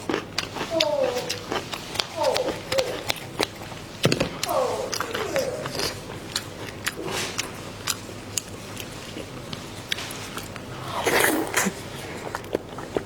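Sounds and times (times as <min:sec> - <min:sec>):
wet chewing and lip smacks: 0:00.0 - 0:03.8, 0:04.4 - 0:13.0.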